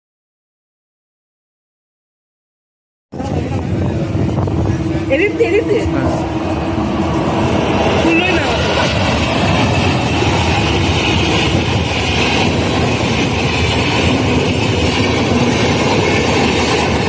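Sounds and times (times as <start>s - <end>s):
train rumble and wheel noise: 3.2s - 17.0s.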